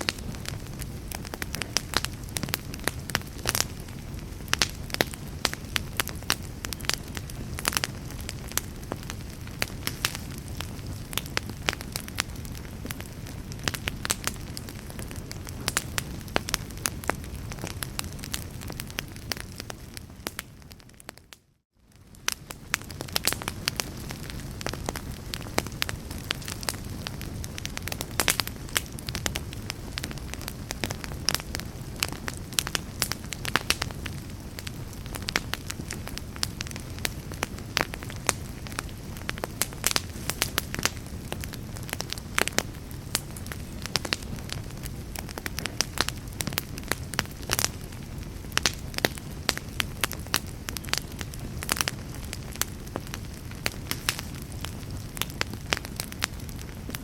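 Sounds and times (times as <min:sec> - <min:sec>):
burning logs crackling and popping: 0:00.0 - 0:57.0
low rumble of flames: 0:00.0 - 0:57.0.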